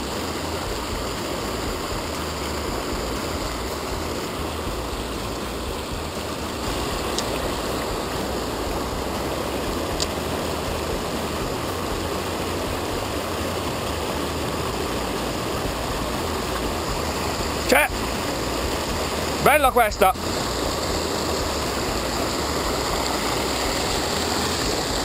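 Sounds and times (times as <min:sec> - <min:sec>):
river water pouring over weir: 0:00.0 - 0:25.0.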